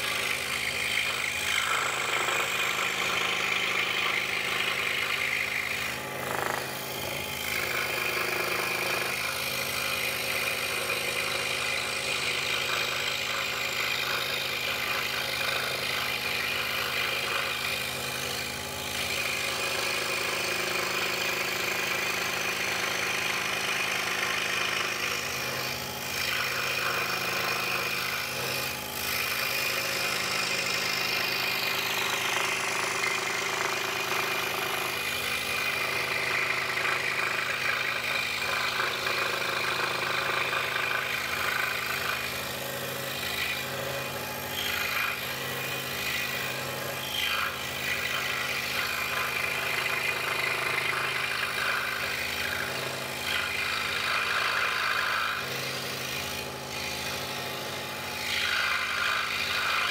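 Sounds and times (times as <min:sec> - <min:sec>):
scroll saw cutting wood: 0:00.0 - 0:59.9.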